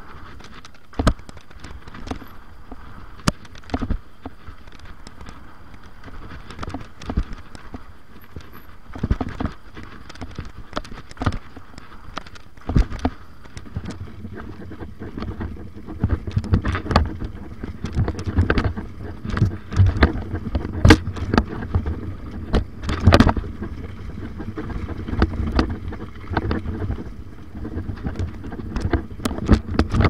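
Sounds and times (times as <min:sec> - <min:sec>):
bike knocking and rattling: 0:00.0 - 0:30.0
tyres crunching over gravel: 0:00.0 - 0:30.0.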